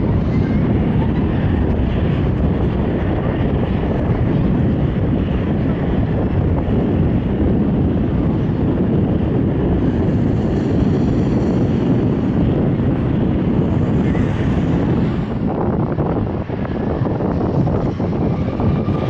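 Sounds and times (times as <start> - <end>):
jet engines running: 0.0 - 19.0
wind buffeting microphone: 0.0 - 19.0.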